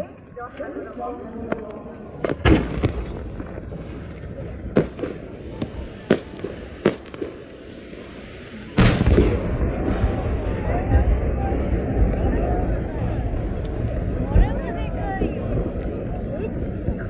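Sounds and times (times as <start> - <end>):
fireworks bangs: 0.0 - 17.0
loud firework boom with crackle: 1.5 - 17.0.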